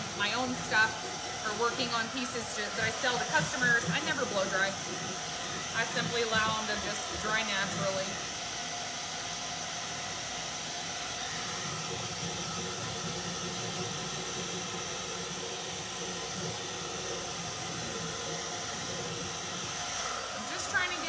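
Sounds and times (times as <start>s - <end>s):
hair dryer blowing air: 0.0s - 21.0s.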